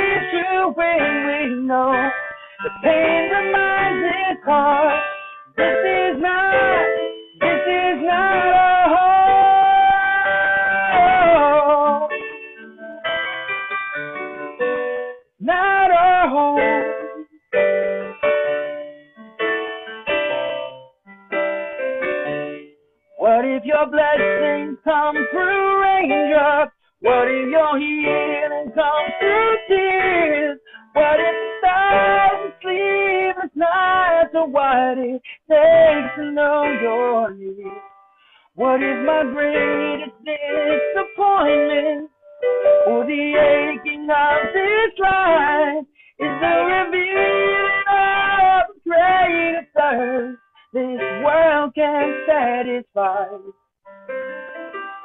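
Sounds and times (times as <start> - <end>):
digital piano: 0.0 - 55.0.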